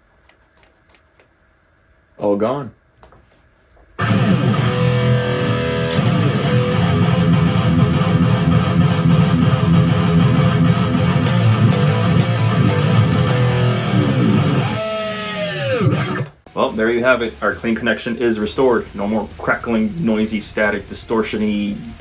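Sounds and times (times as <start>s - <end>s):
loud electric guitar: 4.0s - 22.0s.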